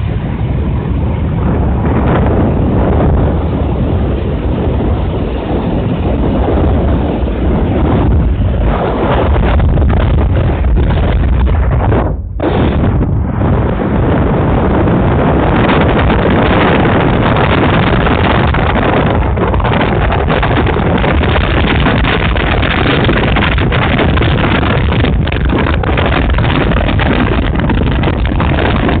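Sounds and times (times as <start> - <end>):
car wind and road noise: 0.0 - 29.0
wind buffeting microphone: 0.0 - 29.0.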